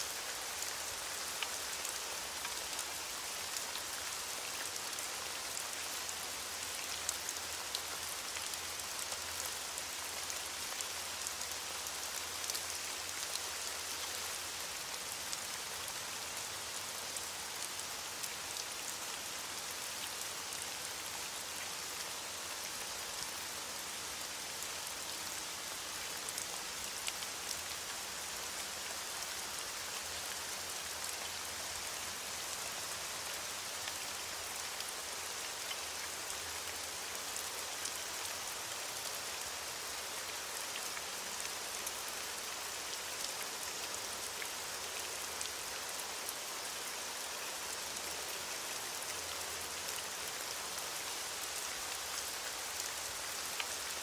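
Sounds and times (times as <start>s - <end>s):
raindrops ticking on surfaces: 0.0s - 54.0s.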